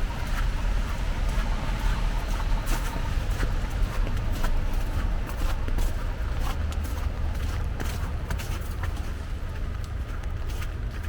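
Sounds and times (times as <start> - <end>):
footsteps on wet snow: 0.3 - 11.0.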